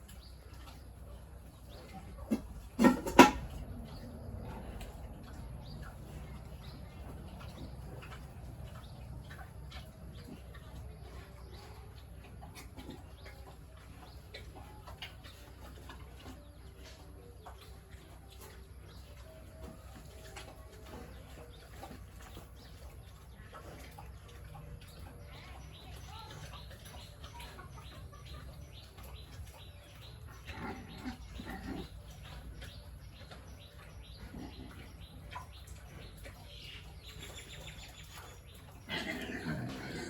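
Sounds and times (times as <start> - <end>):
farmyard birds chirping and clucking: 0.0 - 40.0
steady low hum: 0.0 - 40.0.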